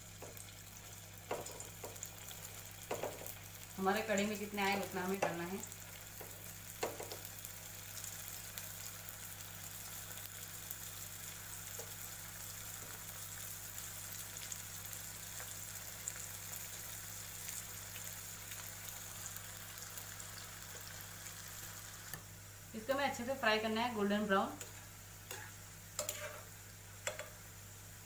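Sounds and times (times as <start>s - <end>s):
deep-frying sizzle with crackle: 0.0s - 28.0s.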